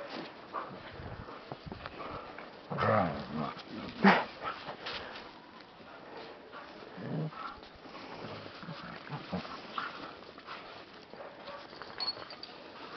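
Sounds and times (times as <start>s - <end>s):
dogs making low vocal sounds: 0.5s - 5.2s, 5.8s - 11.4s.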